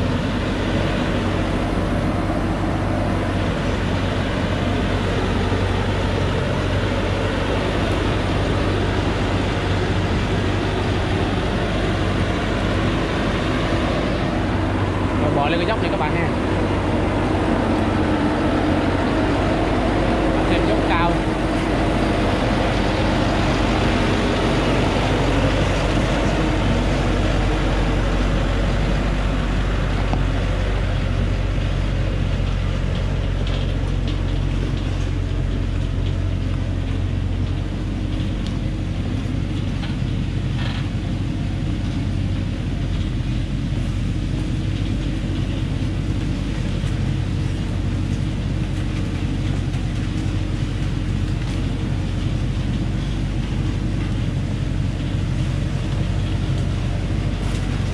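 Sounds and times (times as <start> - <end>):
truck diesel engine: 0.0 - 57.9.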